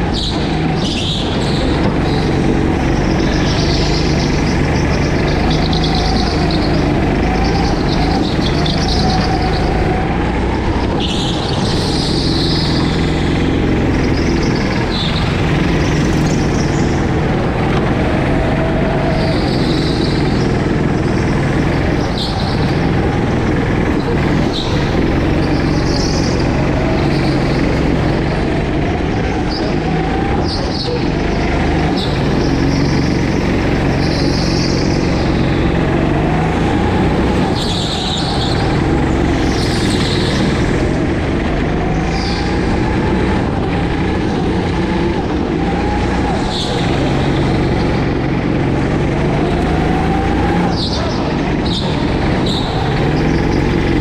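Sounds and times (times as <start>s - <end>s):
go-kart engine running: 0.0s - 54.0s
tyres squealing: 0.0s - 54.0s.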